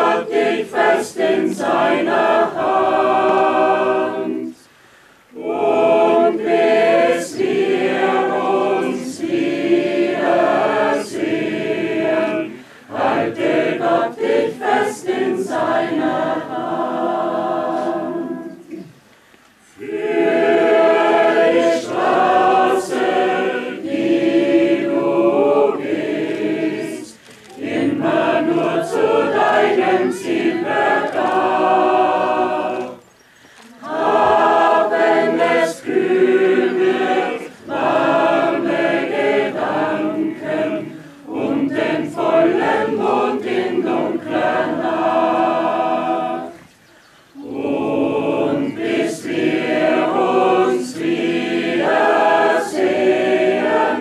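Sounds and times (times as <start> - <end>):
mixed choir singing unaccompanied: 0.0 - 19.0, 19.6 - 54.0.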